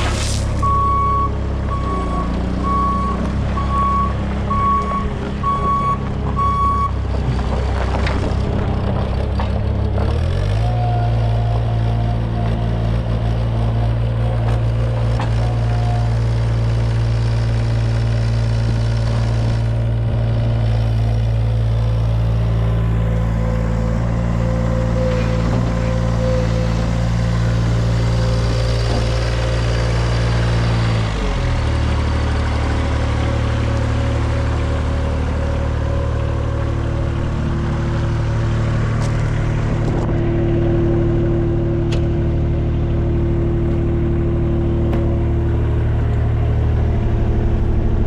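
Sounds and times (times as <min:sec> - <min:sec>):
skid steer diesel engine: 0:00.0 - 0:48.0.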